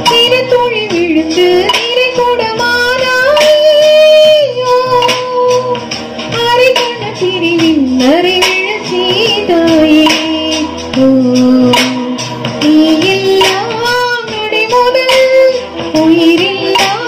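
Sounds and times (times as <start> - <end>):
backing track with steady beat: 0.0 - 17.0
woman singing into microphone: 0.0 - 17.0.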